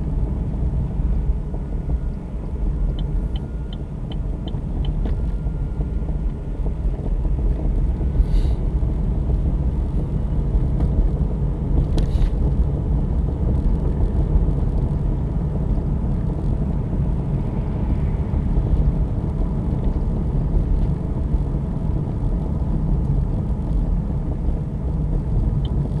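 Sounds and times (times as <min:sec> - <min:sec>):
road and tyre rumble: 0:00.0 - 0:26.0.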